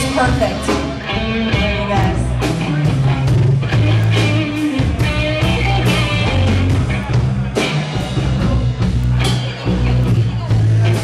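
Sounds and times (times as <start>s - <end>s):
bass: 0.0s - 11.0s
drum beat: 0.0s - 11.0s
electric guitar: 0.0s - 11.0s.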